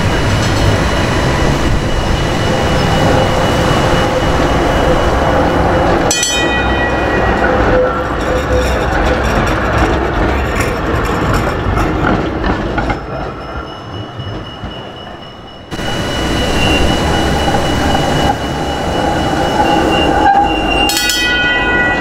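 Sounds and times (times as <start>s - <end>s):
trams rumbling on rails: 0.0s - 22.0s
wheel squeal: 1.4s - 6.0s, 6.8s - 12.2s, 12.8s - 22.0s.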